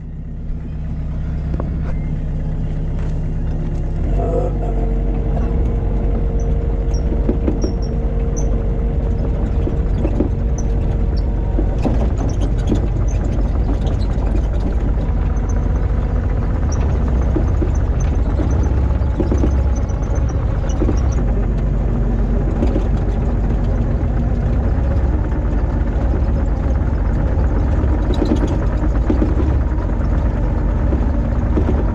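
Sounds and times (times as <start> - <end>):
excavator diesel engine running: 0.0 - 31.9
steady machine whine: 0.0 - 31.9
machine clanks and knocks: 4.9 - 31.9.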